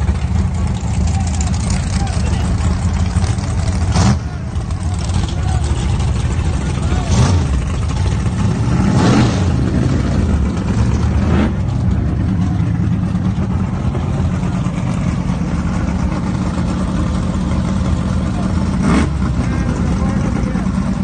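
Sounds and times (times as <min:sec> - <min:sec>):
drag car engine running: 0:00.0 - 0:21.0.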